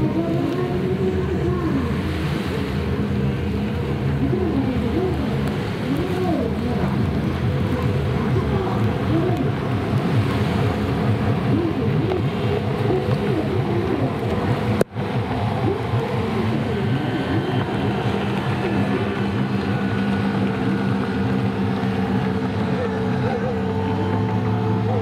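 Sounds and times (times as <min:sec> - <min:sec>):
jet ski engines revving: 0:00.0 - 0:25.0.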